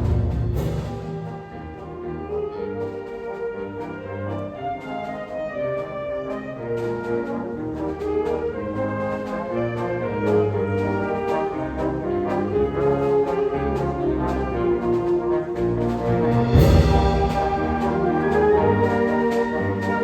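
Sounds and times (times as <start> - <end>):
wind band playing held chords: 0.0 - 20.0.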